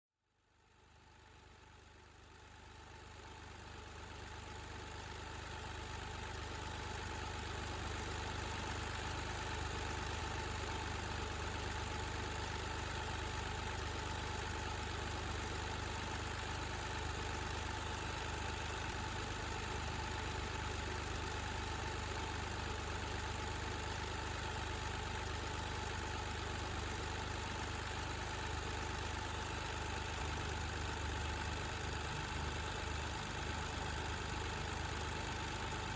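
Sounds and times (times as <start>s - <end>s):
car engine idling: 1.2s - 35.9s.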